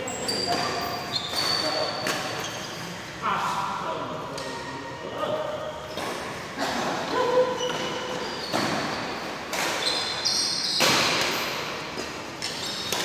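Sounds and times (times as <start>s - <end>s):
shoes squeaking on court floor: 0.0s - 3.6s, 5.6s - 13.0s.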